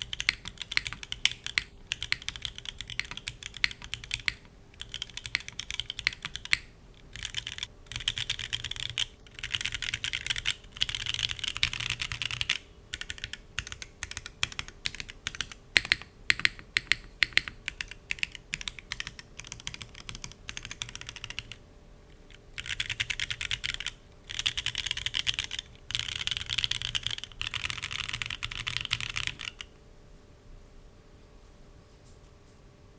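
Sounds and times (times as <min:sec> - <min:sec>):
mechanical keyboard typing: 0:00.0 - 0:21.6, 0:22.2 - 0:29.7.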